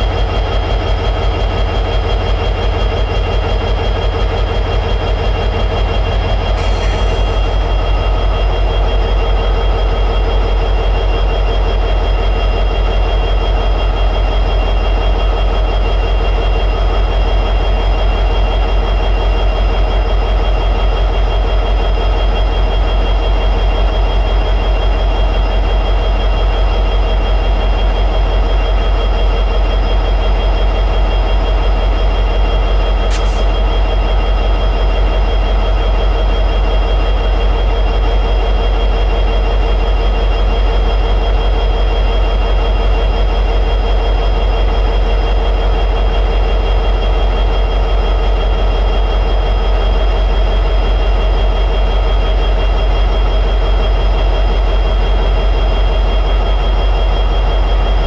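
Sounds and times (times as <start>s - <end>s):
locomotive diesel engine idling: 0.0s - 58.0s.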